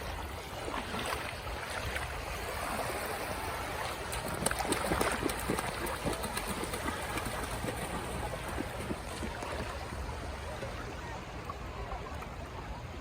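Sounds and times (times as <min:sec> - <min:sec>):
shallow water lapping: 0:00.0 - 0:13.0.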